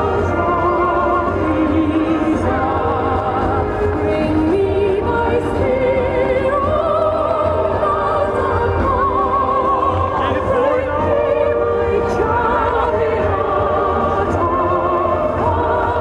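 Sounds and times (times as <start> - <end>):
operatic singing: 0.0 - 16.0
orchestral strings: 0.0 - 16.0.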